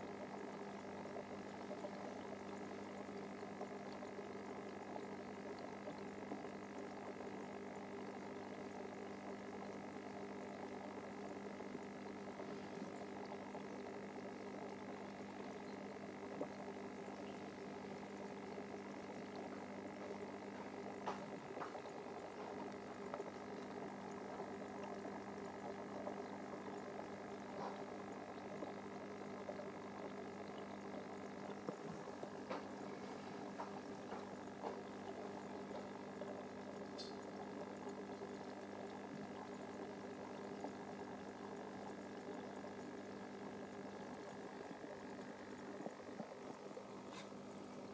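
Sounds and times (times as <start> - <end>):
aquarium filter hum: 0.0 - 47.9
bubbling water: 0.0 - 47.9.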